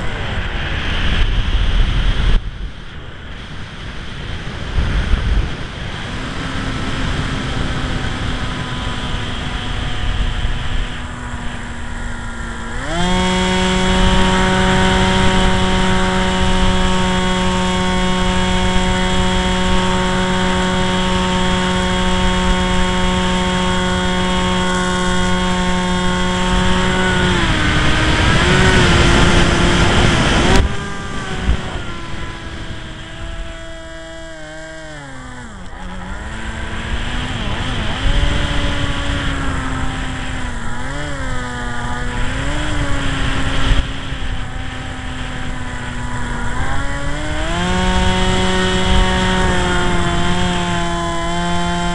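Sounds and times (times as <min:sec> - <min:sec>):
model plane motor whining: 0:00.0 - 0:51.9
wind buffeting microphone: 0:00.0 - 0:51.9.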